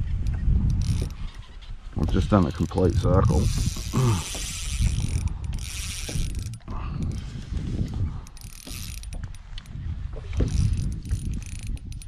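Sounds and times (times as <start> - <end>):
fishing reel clicking and whirring: 0.2 - 7.2, 7.8 - 12.0.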